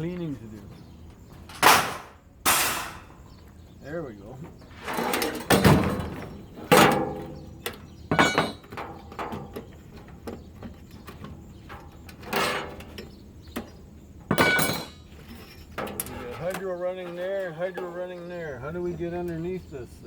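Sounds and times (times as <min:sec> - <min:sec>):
metal parts knocking and clanking: 0:00.7 - 0:03.3, 0:04.5 - 0:18.0.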